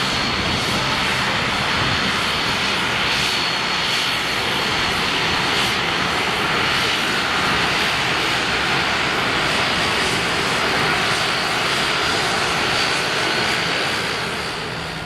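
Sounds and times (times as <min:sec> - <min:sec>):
turboprop engines at full power: 0:00.0 - 0:15.0.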